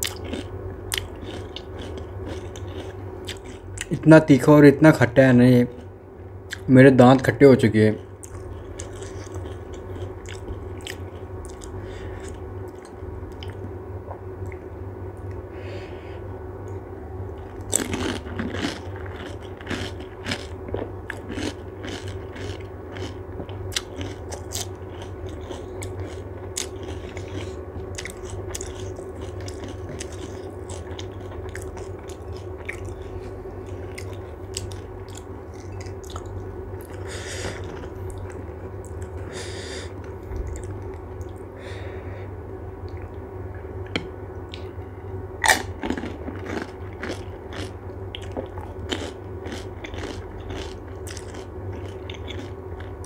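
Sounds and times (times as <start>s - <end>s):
person chewing crisp food: 0.0s - 4.0s, 8.0s - 15.9s, 17.3s - 42.0s, 45.4s - 53.0s
steady low hum: 0.0s - 53.0s.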